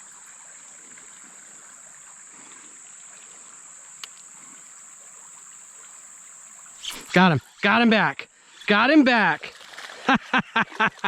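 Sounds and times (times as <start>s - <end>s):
creek water flowing: 0.0s - 11.0s
insects droning: 0.0s - 11.0s.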